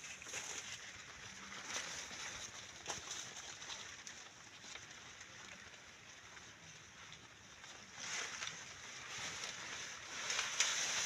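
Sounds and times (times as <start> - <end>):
rustling and scraping among plants: 0.0 - 5.7, 7.1 - 11.0.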